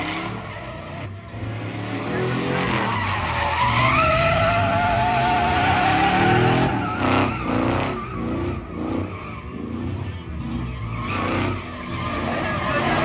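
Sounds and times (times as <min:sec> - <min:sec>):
truck engine revving: 0:00.0 - 0:13.0
tyres squealing: 0:00.0 - 0:13.0.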